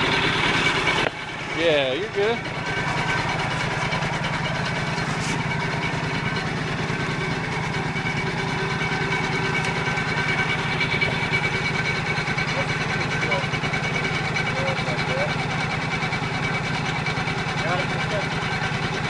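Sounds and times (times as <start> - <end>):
garden tractor engine running: 0.0 - 19.0.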